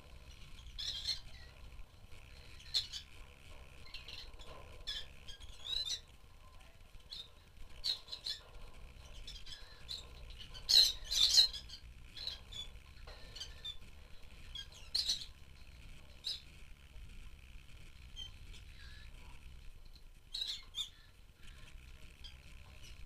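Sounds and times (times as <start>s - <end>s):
lovebirds chirping and squawking: 0.0s - 6.2s, 7.0s - 16.9s, 18.0s - 19.4s, 20.2s - 23.0s.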